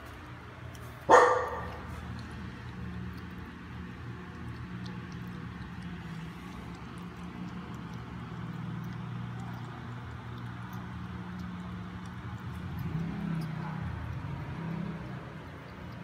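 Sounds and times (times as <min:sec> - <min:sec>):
kitten lapping water: 0:00.0 - 0:16.0.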